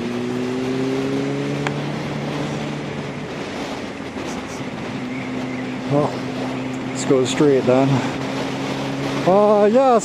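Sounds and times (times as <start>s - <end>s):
motorcycle engine running: 0.0s - 10.0s
wind noise: 0.0s - 10.0s.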